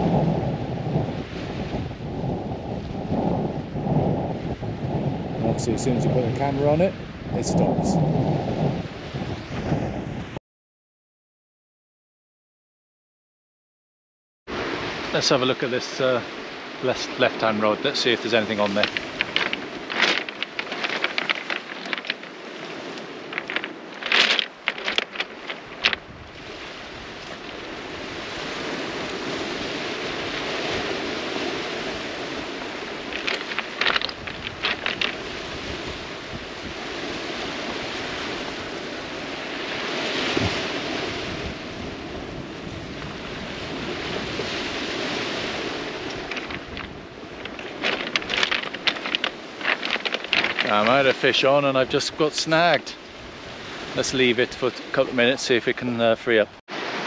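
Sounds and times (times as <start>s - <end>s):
waves washing onto pebble beach: 0.0s - 9.6s, 14.5s - 57.0s
wind buffeting microphone: 0.0s - 10.4s, 17.4s - 54.1s.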